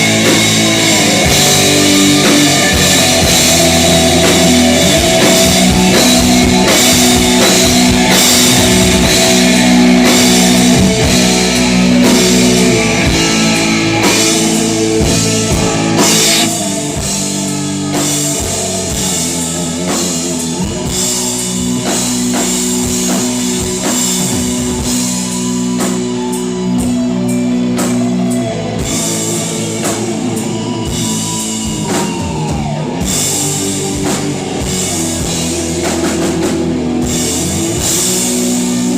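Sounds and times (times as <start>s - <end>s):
drum kit: 0.0s - 38.9s
electric guitar chords: 0.0s - 38.9s.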